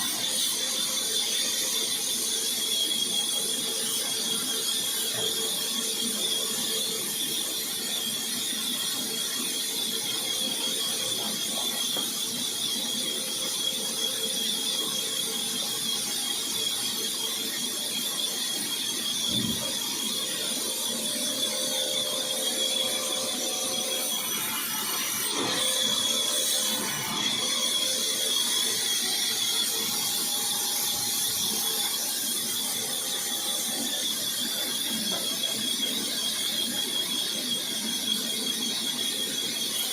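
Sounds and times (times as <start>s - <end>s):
power woodworking machine running: 0.0s - 39.9s.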